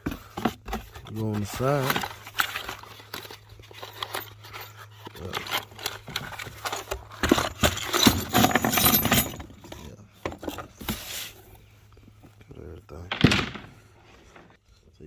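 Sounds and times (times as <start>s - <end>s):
hardware parts clattering: 0.0s - 11.3s, 13.0s - 14.6s
steady low hum: 0.1s - 15.0s.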